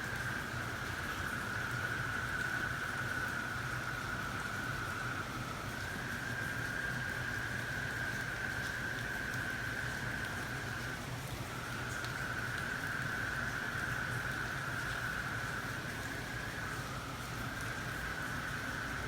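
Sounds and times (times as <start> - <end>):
frogs and insects trilling: 0.0 - 11.0, 11.7 - 19.0.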